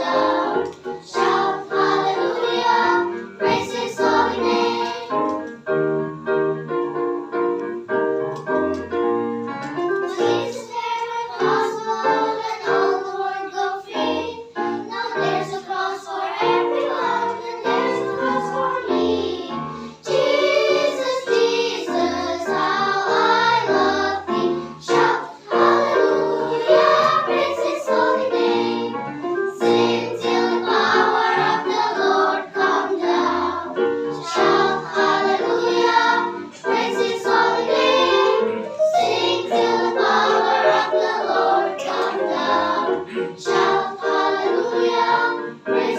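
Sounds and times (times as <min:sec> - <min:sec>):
children's choir singing: 0:00.0 - 0:07.8, 0:10.0 - 0:45.9
instrumental accompaniment: 0:00.0 - 0:45.9.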